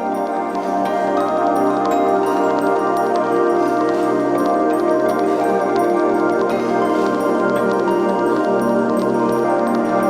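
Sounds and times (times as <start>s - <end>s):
bell-like struck notes: 0.0s - 9.8s
sustained music tones: 0.0s - 10.0s.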